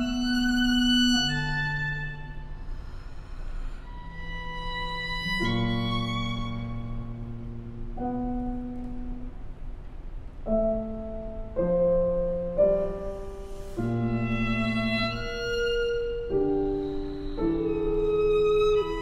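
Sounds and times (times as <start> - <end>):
violin clarinet and piano trio: 0.0 - 9.1, 12.1 - 19.0.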